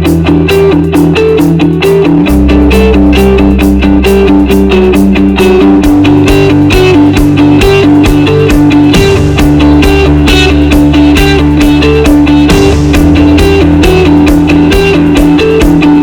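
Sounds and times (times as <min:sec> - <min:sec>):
plucked guitar music with bass and beat: 0:00.0 - 0:16.0.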